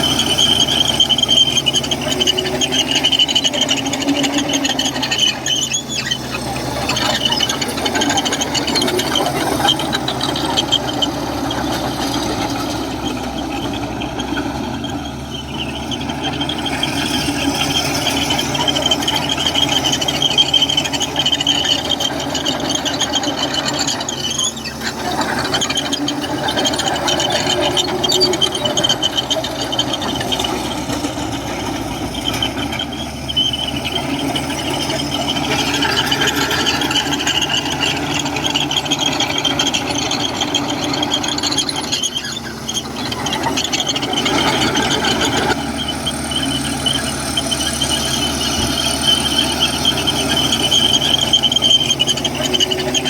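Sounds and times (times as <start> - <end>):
bulldozer diesel engine running: 0.0 - 53.0
high-pitched squeal: 0.0 - 53.0.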